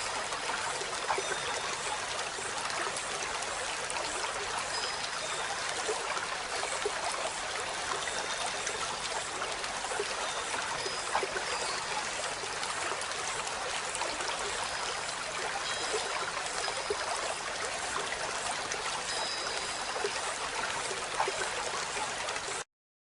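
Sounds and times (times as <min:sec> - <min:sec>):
steady hiss like running water: 0:00.0 - 0:22.6.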